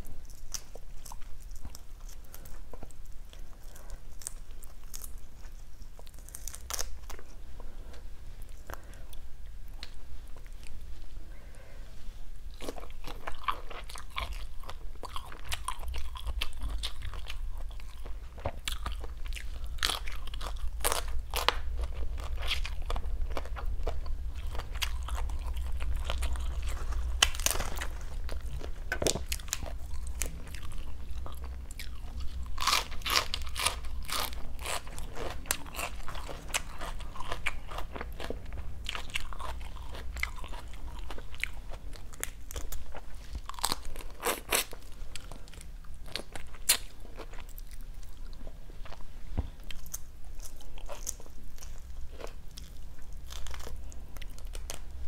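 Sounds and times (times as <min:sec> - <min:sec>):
chewing and crunching: 0:00.0 - 0:11.8, 0:12.4 - 0:55.0
low steady hum: 0:00.0 - 0:55.0.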